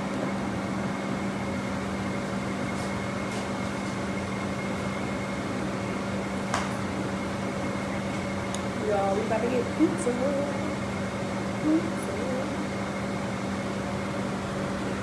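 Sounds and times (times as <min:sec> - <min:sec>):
air conditioning fan humming: 0:00.0 - 0:15.0.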